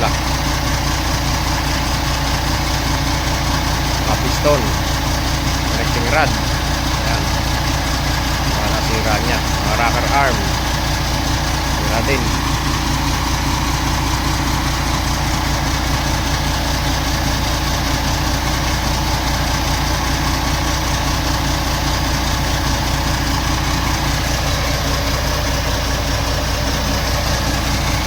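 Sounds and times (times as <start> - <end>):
large vehicle engine idling: 0.0 - 28.0.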